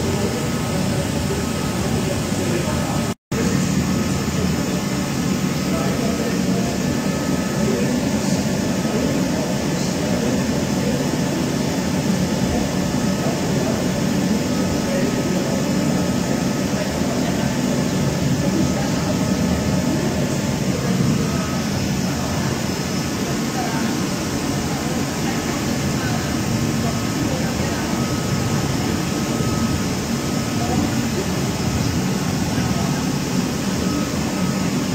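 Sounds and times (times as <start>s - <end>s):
grinding machine humming: 0.0s - 34.9s.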